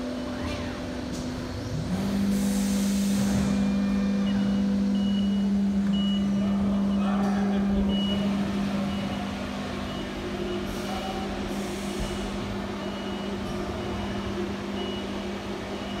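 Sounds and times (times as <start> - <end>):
machine low hum: 0.0 - 16.0.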